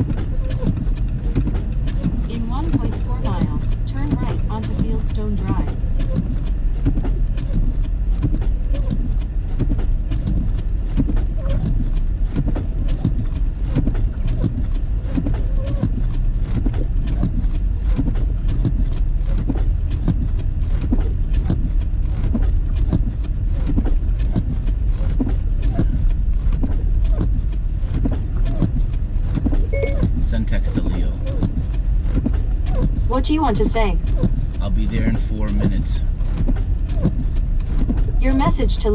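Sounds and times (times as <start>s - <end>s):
car interior rumble: 0.0s - 38.9s
rapid sharp ticks: 0.0s - 38.9s.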